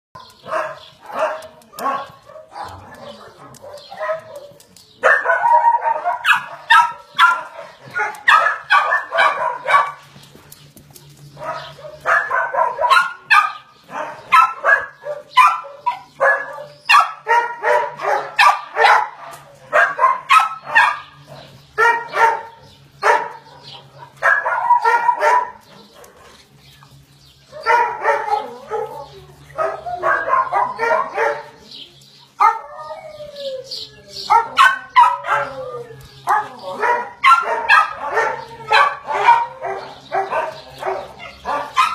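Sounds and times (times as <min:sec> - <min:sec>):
dog barking: 0:00.4 - 0:10.0, 0:11.4 - 0:21.2, 0:21.8 - 0:26.4, 0:27.5 - 0:29.0, 0:29.6 - 0:31.6, 0:34.2 - 0:35.6, 0:36.3 - 0:41.9.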